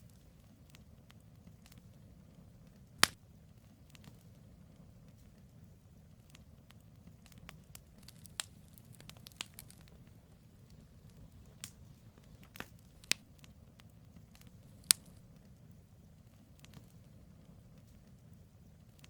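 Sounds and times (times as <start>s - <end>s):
campfire hissing: 0.0s - 19.0s
logs crackling and popping: 0.0s - 19.0s.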